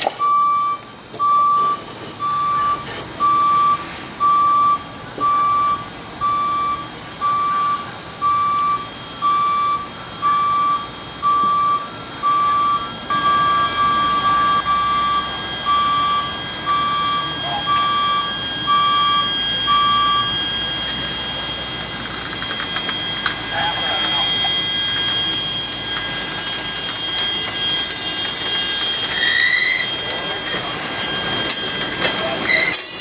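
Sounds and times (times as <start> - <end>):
high-pitched warning beeps: 0.0 - 33.0.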